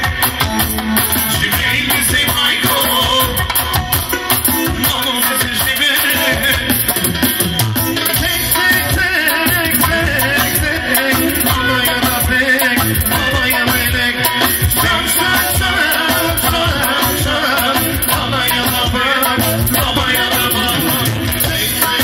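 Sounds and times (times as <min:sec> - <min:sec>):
loud dance music: 0:00.0 - 0:22.0.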